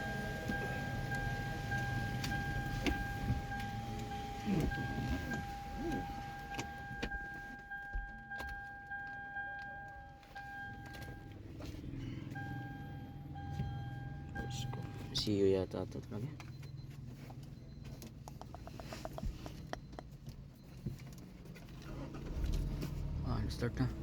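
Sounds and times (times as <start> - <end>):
car electronic beep tone: 0.0 - 24.0.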